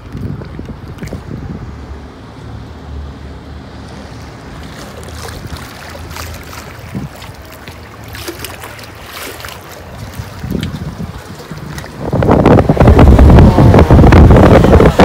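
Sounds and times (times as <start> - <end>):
wind buffeting microphone: 0.0 - 2.0, 4.3 - 15.0
boat engine droning: 0.0 - 15.0
water splashing on hull: 0.0 - 15.0.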